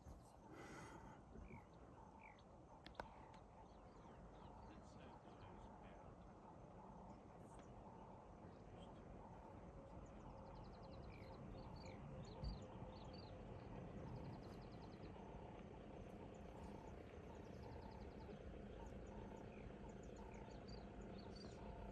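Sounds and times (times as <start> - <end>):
low steady hum: 0.0 - 21.9
small birds chirping: 0.0 - 21.9.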